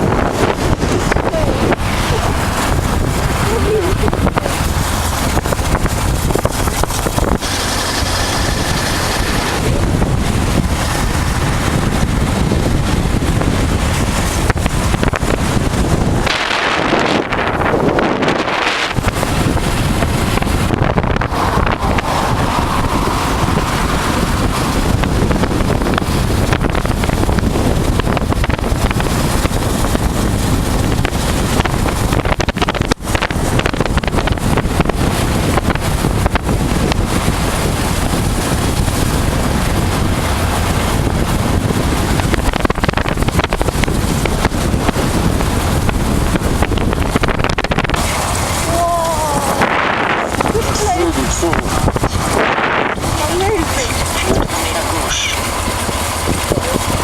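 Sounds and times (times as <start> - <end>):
motorcycle engine drone: 0.0 - 57.0
wind rushing over microphone: 0.0 - 57.0.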